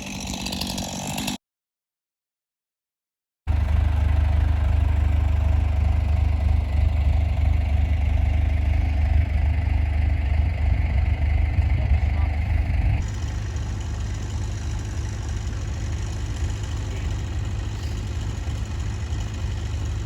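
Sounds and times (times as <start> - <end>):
bulldozer diesel engine droning: 3.5 - 20.0.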